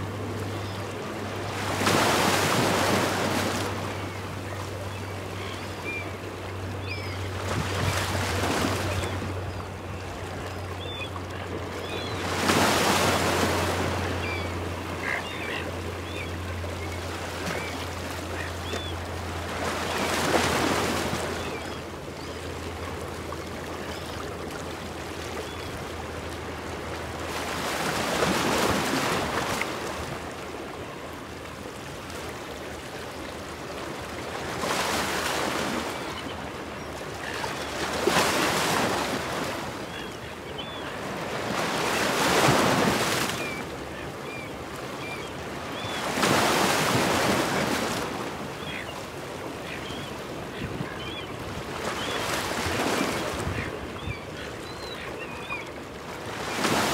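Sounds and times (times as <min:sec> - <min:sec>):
ocean waves breaking on rocks: 0:00.0 - 0:22.1, 0:22.7 - 0:56.9
seagulls calling: 0:00.1 - 0:26.8, 0:34.6 - 0:56.9.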